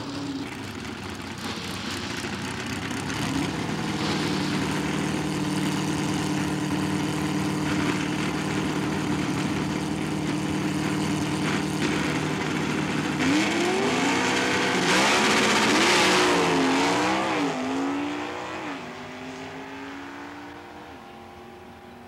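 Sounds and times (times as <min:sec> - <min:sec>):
drag car engine revving: 0:00.0 - 0:21.5.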